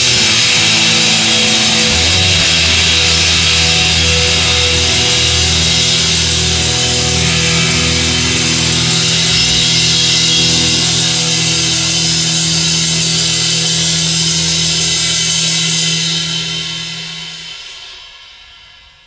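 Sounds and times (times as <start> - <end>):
punk band held chord: 0.0 - 18.6
cymbals washing: 0.0 - 19.0.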